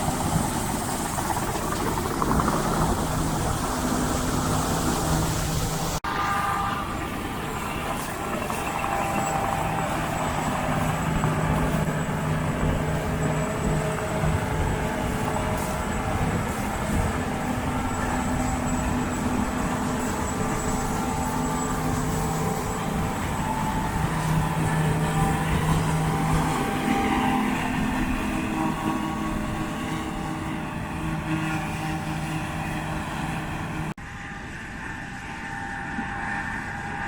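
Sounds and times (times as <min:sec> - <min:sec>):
combine harvester engine hum: 0:00.0 - 0:37.0.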